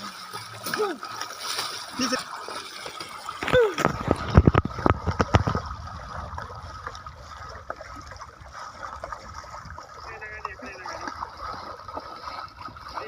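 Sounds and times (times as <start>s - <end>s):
water splashing: 0.0s - 13.0s
water trickling: 0.0s - 13.0s.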